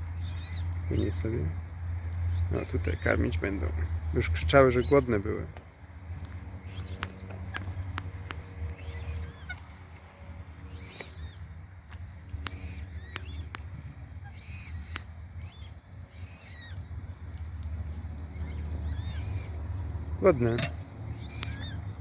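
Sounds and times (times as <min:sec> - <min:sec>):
water-bird chicks begging calls: 0:00.1 - 0:09.8, 0:10.4 - 0:22.0.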